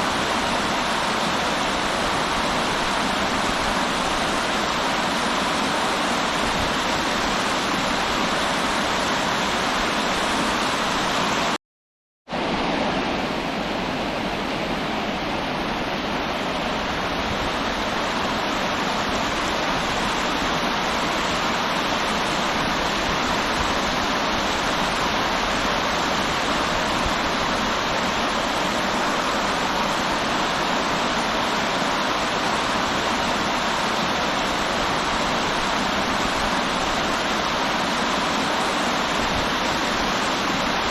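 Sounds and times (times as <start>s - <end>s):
river water rushing: 0.0s - 11.6s, 12.3s - 40.9s.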